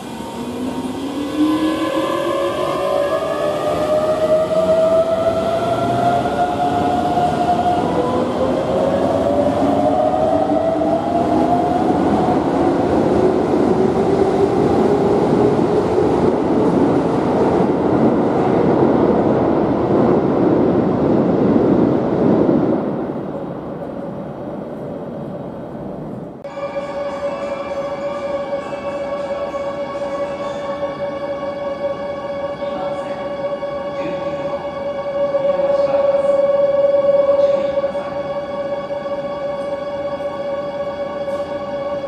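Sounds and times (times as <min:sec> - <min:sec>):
rumble of train wheels: 0:00.0 - 0:42.0.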